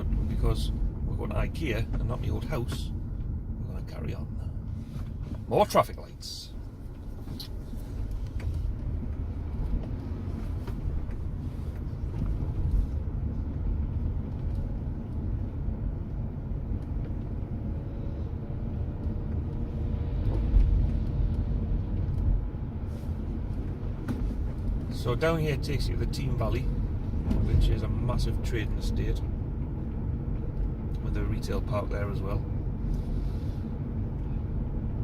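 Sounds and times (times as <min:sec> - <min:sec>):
car engine and tyre rumble: 0:00.0 - 0:35.0.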